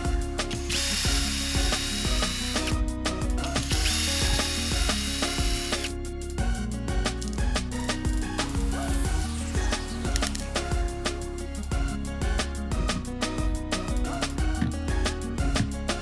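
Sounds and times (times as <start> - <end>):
background music with beat: 0.0 - 16.0.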